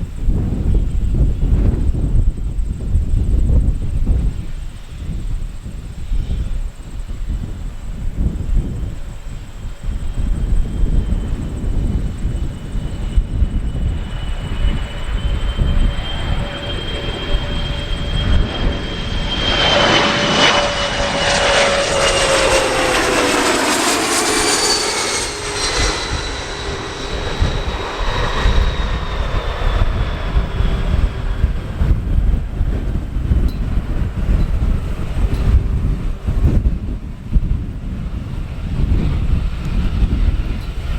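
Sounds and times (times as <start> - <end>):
airplane passing close by: 0.0 - 40.9
wind buffeting microphone: 0.0 - 40.9.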